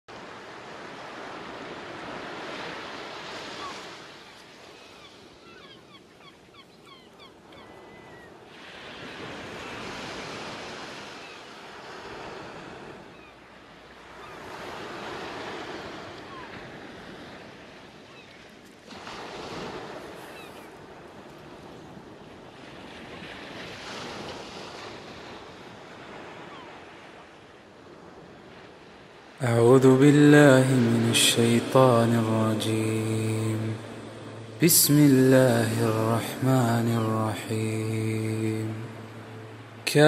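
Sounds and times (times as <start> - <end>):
ocean waves washing in: 0.1 - 6.6, 7.3 - 40.0.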